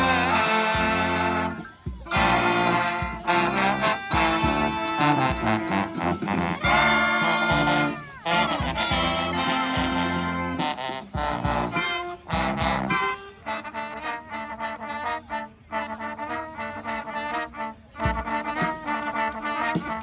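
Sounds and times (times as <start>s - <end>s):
brass band playing: 0.0s - 20.0s.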